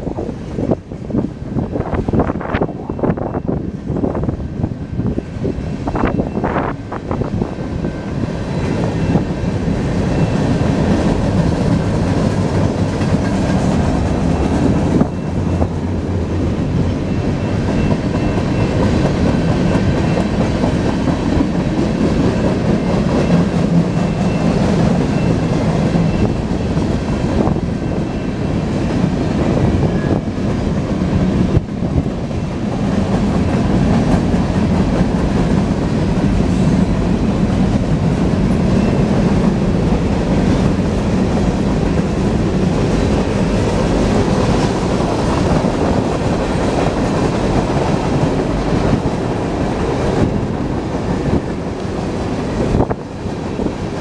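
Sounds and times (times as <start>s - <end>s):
freight cars rumbling: 0.0s - 54.0s
wheels clattering on rails: 5.8s - 54.0s.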